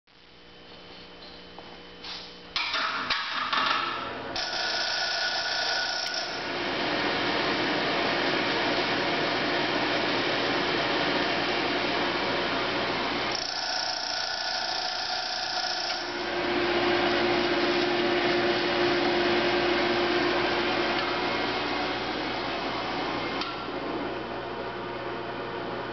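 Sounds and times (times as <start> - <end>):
steady hum: 0.1 - 25.9
forge blower whirring: 2.6 - 25.9.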